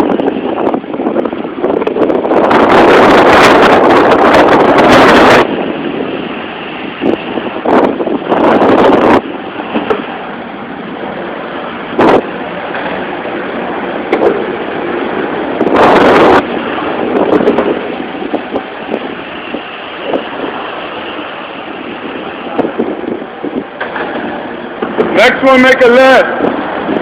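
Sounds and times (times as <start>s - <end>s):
loud rushes of noise: 0.0s - 27.0s
skateboard wheels rolling on concrete: 0.0s - 27.0s.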